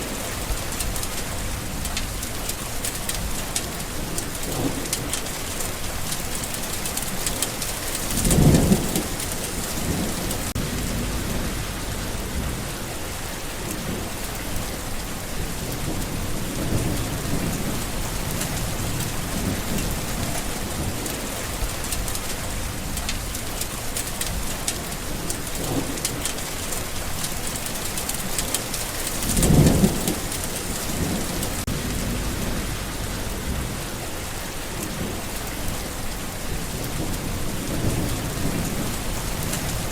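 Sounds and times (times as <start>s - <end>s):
thunder rumbling: 0.0s - 23.6s, 24.2s - 39.9s
heavy rain falling: 0.0s - 39.9s.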